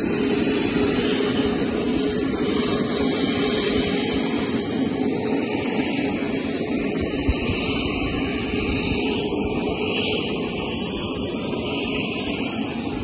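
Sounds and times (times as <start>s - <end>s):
helicopter turbine engine droning: 0.0s - 13.0s.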